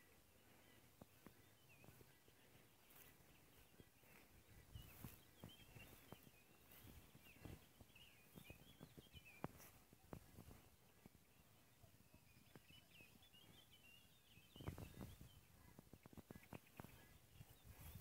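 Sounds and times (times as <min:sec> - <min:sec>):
distant birds chirping: 0:00.0 - 0:18.0.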